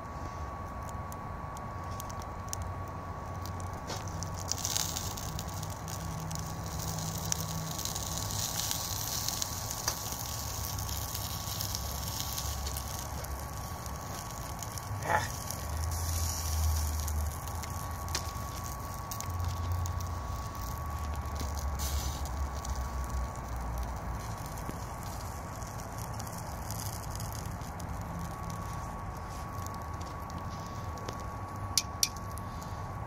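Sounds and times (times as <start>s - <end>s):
fire crackling: 0.0s - 33.0s
stove fan whining: 0.0s - 33.0s
food sizzling: 3.4s - 32.5s.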